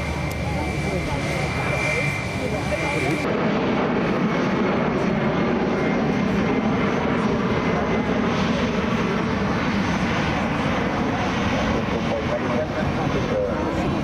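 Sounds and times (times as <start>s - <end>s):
airliner engine rushing: 0.0s - 14.0s.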